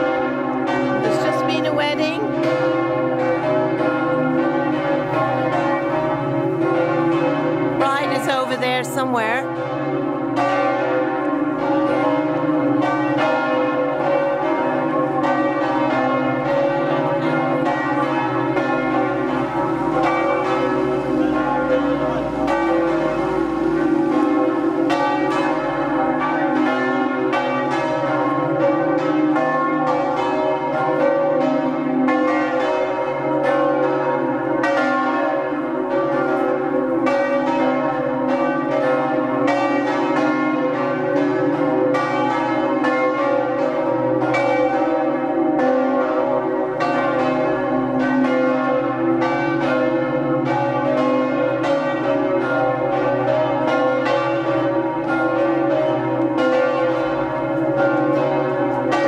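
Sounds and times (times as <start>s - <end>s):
church bells pealing: 0.0s - 59.0s.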